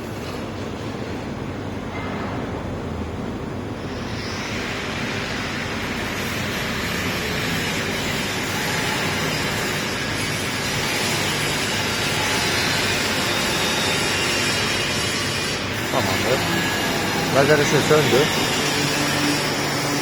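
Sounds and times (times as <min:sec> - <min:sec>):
laser cutting machine hum and hiss: 0:03.8 - 0:20.0.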